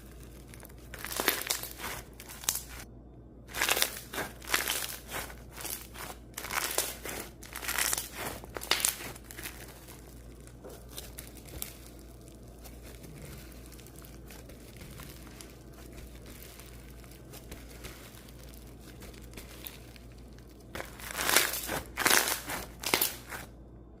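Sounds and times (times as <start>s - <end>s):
slime squeezed by hand: 0.0s - 2.8s, 3.5s - 23.5s.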